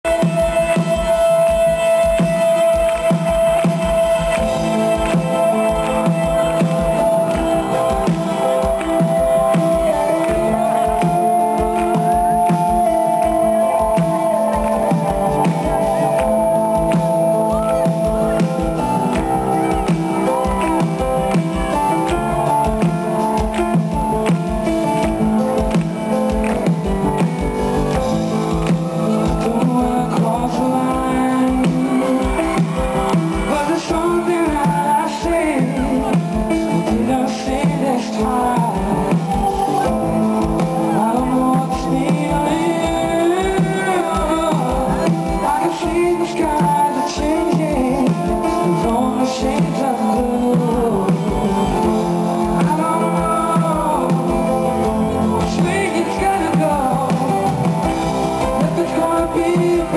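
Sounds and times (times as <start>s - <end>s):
live pop-rock band: 0.0s - 59.9s
man singing: 0.0s - 59.9s.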